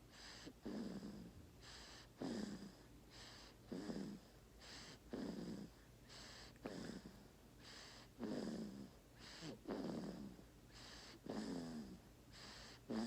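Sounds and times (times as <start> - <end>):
low rough snore: 0.0 - 13.0.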